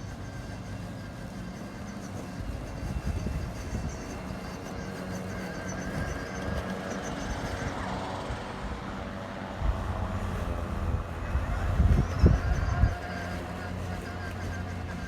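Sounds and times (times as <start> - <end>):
lawnmower running: 0.0 - 15.0
wind buffeting microphone: 0.0 - 15.0.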